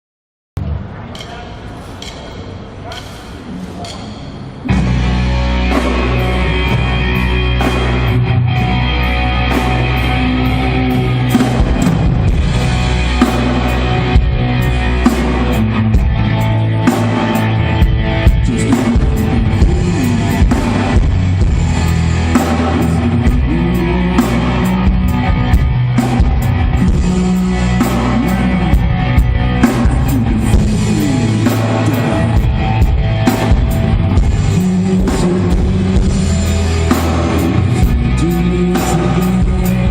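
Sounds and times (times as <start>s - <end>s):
low bass notes: 3.4s - 39.9s
rock band playing live: 4.4s - 39.9s.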